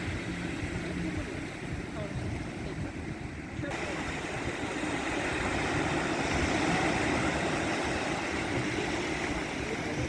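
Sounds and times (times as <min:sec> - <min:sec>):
steady rushing noise: 0:00.0 - 0:10.0
wind buffeting microphone: 0:00.0 - 0:10.0.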